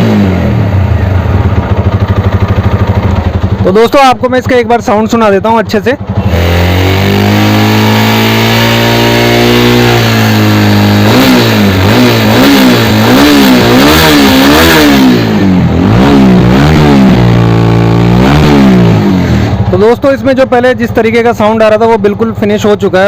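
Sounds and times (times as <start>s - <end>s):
motorcycle engine revving: 0.0s - 22.8s.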